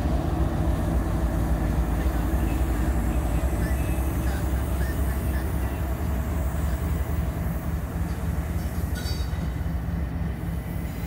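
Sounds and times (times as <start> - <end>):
locomotive engines rumbling: 0.0 - 11.0
train cars rolling past: 0.0 - 11.0.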